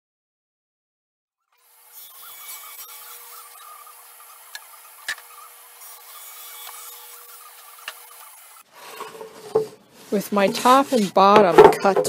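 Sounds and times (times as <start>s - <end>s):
table saw cutting plywood: 1.5s - 12.0s.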